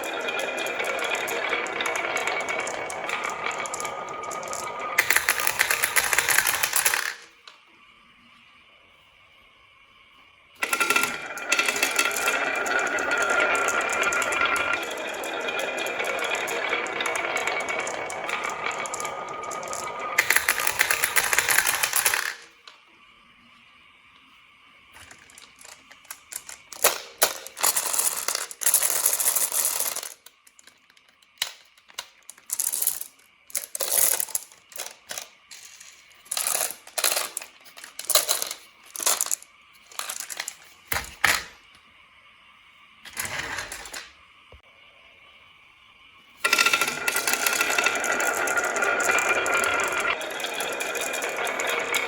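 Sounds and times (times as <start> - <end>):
marbles clattering down a track: 0.0 - 7.5, 10.6 - 22.8, 24.9 - 41.6, 43.1 - 44.2, 46.4 - 52.0.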